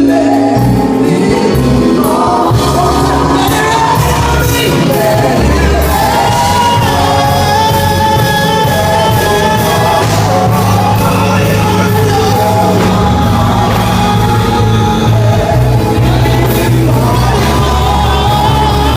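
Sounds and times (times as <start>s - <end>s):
loud live band music: 0.0s - 18.9s
person singing: 0.0s - 18.9s.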